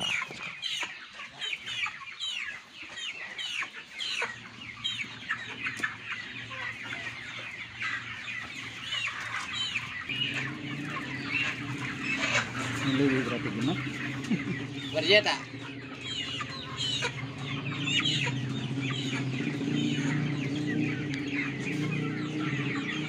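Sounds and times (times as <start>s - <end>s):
chickens calling: 0.0s - 23.0s.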